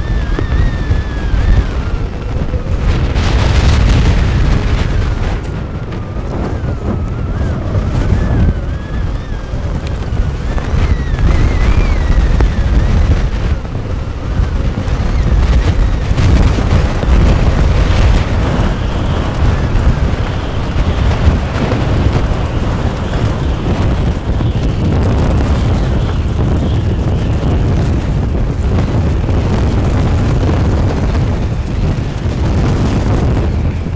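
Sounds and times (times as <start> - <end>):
strong wind buffeting microphone: 0.0 - 33.9.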